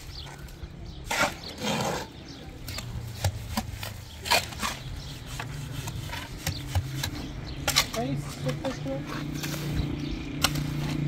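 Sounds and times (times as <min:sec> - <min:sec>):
shovels scraping sand and cement: 0:00.9 - 0:11.0.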